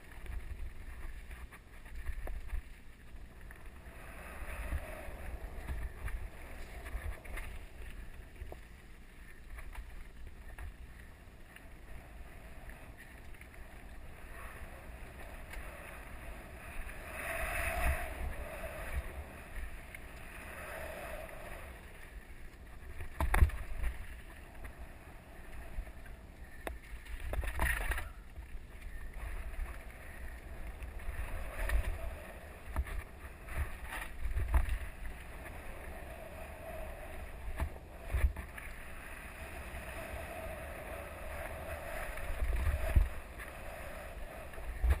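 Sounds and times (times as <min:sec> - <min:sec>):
wind on camera microphone: 0:03.7 - 0:08.6, 0:11.6 - 0:45.0.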